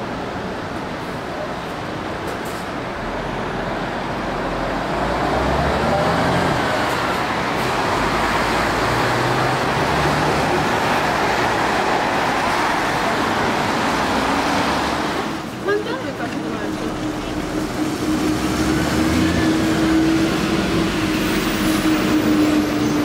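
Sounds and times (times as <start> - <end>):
bus engine accelerating: 0.0 - 23.0
tyres on wet road: 0.0 - 23.0.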